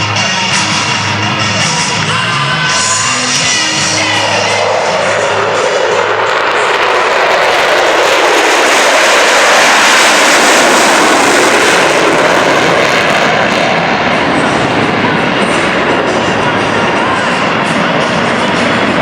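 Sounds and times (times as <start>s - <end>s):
jet planes flying past: 0.0s - 19.0s.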